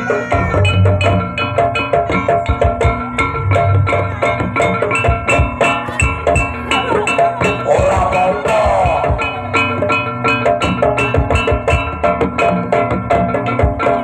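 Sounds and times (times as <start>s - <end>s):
hand drums beating: 0.0s - 14.0s.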